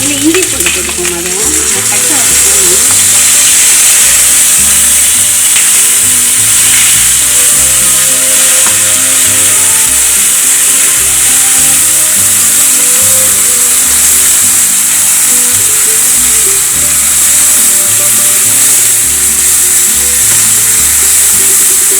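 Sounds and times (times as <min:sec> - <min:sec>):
background music: 0:00.0 - 0:21.9
onions sizzling in hot oil: 0:00.0 - 0:21.9.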